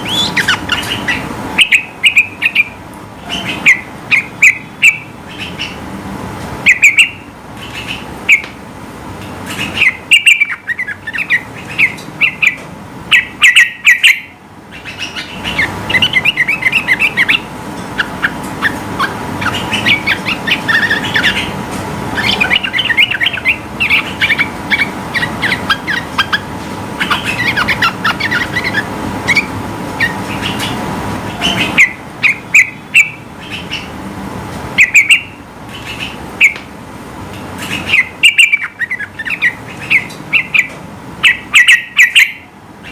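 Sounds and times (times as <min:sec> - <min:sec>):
bird rapid chattering: 0:00.0 - 0:05.8, 0:06.6 - 0:08.5, 0:09.4 - 0:34.0, 0:34.8 - 0:36.6, 0:37.6 - 0:42.9.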